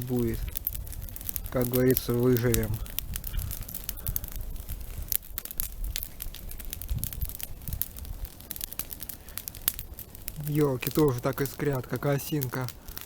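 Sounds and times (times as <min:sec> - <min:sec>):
campfire crackling: 0:00.0 - 0:13.0
sharp pops of burning wood: 0:00.0 - 0:13.0.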